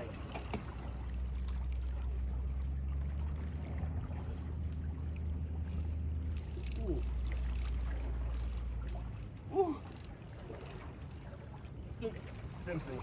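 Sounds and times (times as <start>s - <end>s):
seawater washing among rocks: 0.0s - 2.3s, 3.5s - 13.0s
low rumble: 0.0s - 13.0s.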